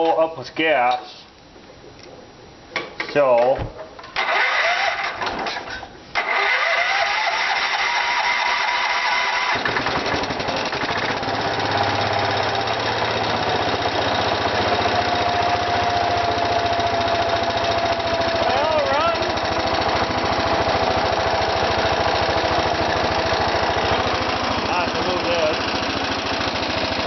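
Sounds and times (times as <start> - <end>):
small engine running: 4.2 - 5.2, 6.2 - 27.0
starter cranking engine: 4.2 - 27.0.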